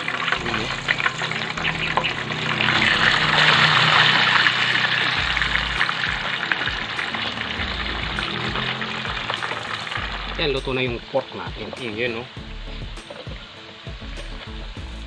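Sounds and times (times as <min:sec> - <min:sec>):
pork frying in hot oil: 0:00.0 - 0:15.0.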